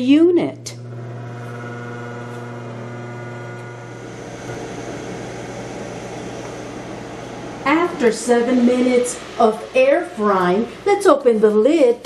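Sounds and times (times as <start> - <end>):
multicooker fan humming with whine: 0.0 - 12.0.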